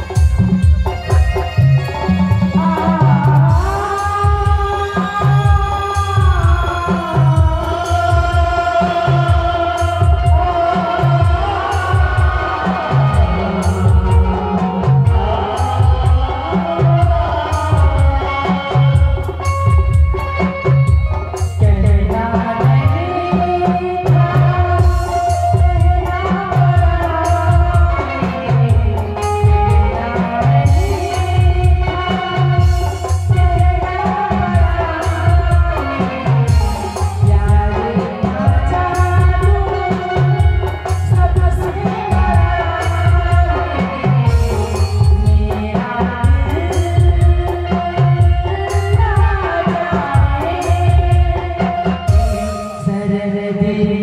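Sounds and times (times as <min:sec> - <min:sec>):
steady drum beat: 0:00.0 - 0:53.0
keyboard: 0:00.0 - 0:54.0
woman singing into a microphone: 0:00.0 - 0:54.0.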